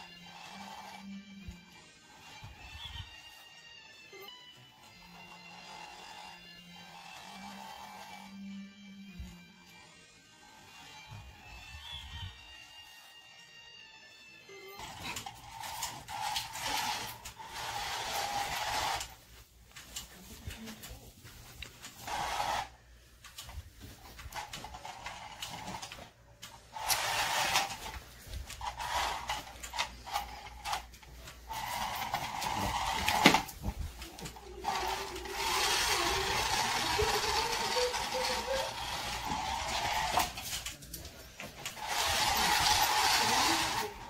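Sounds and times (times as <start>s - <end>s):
toy motor whirring: 0.0s - 13.0s, 14.7s - 19.3s, 21.6s - 44.0s.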